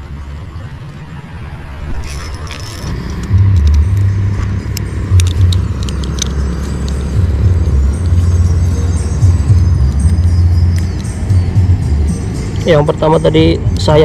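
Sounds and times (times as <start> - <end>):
loud low rumble: 1.3 - 13.0
metal clicking and jingling: 2.0 - 14.0.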